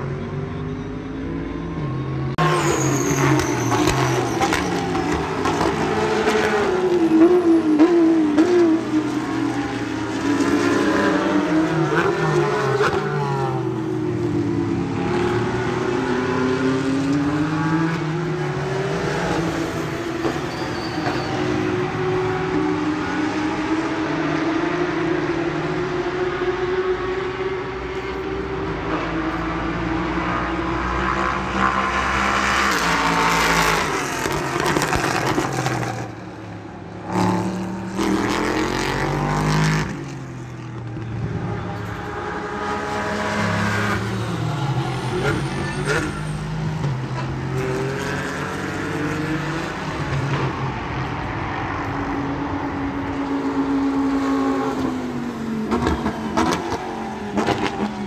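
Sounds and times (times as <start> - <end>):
race cars passing at high revs: 1.6 - 58.0.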